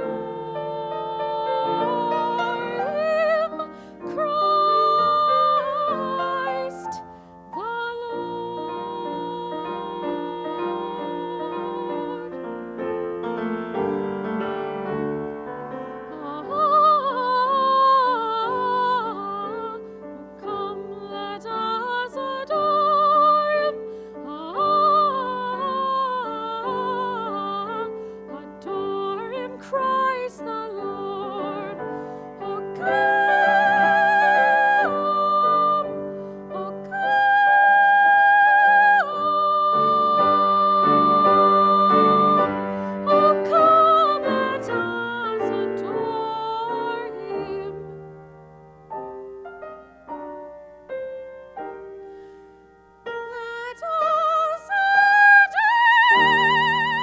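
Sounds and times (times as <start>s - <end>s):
woman singing operatically: 0.0s - 12.8s, 15.9s - 48.0s, 53.2s - 57.0s
piano accompaniment: 0.0s - 57.0s.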